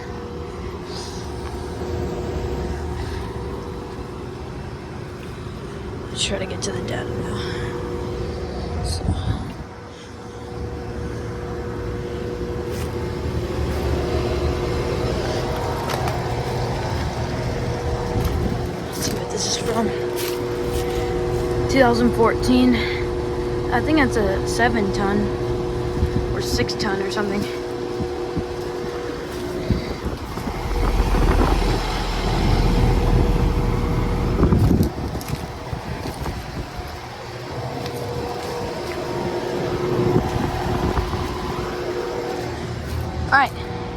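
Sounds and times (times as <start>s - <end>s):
air conditioner hum: 0.0s - 43.9s
low fan rumble: 0.0s - 43.9s
wind buffeting microphone: 0.0s - 43.9s.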